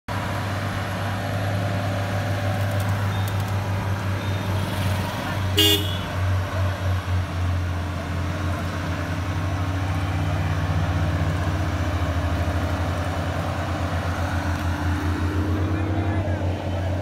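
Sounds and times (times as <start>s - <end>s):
faint engine hum: 0.1s - 17.0s.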